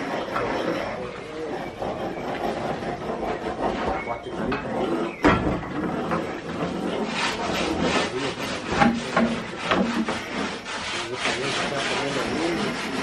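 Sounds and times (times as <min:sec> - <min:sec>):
rough scraping and rubbing: 0:00.0 - 0:13.0.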